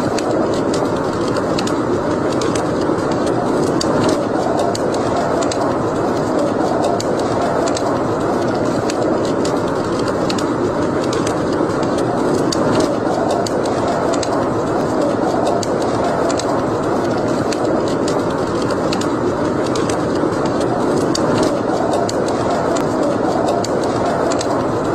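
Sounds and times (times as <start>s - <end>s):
fire crackles and pops: 0.0s - 24.9s
wood fire burning: 0.0s - 24.9s.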